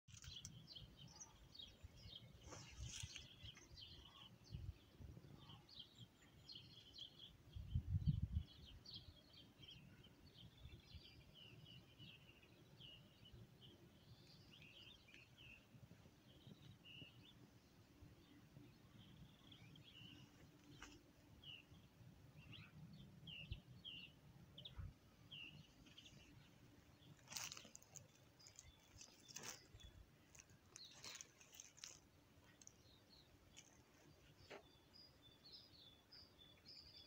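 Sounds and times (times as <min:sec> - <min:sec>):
small songbirds chirping: 0:00.1 - 0:37.0.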